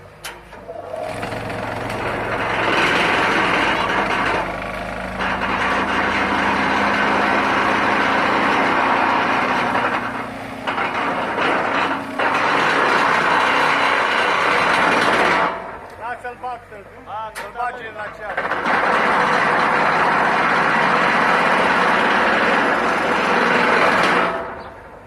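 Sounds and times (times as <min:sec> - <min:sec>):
excavator engine under load: 0:00.0 - 0:25.0
pile driver buzzing: 0:00.2 - 0:15.9, 0:18.2 - 0:24.7.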